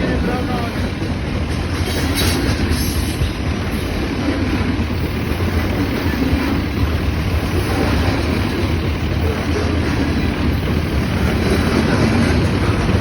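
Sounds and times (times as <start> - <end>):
freight train cars rumbling: 0.0 - 13.0.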